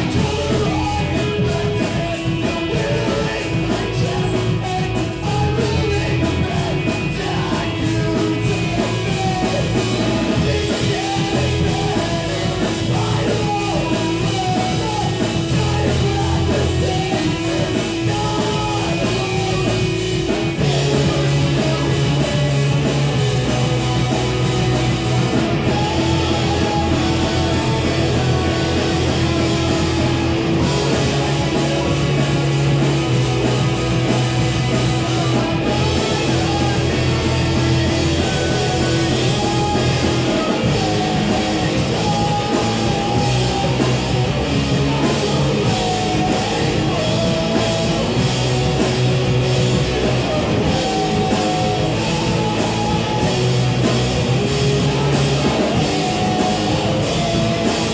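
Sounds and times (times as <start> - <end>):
drum kit beating: 0.0 - 57.9
electric guitars: 0.0 - 57.9
rock band playing: 0.0 - 57.9.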